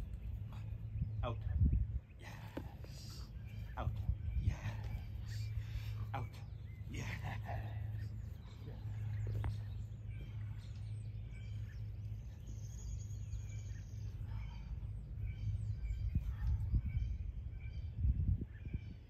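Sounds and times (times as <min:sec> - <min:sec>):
birds chirping and whistling: 0:00.0 - 0:19.0
steady low hum: 0:00.0 - 0:19.0.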